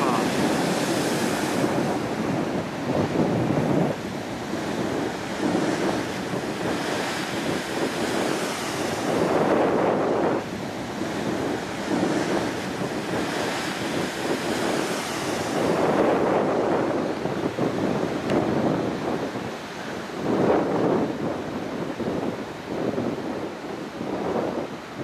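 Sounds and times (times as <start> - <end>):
ocean waves breaking on rocks: 0.0 - 25.0
wind buffeting microphone: 0.0 - 25.0.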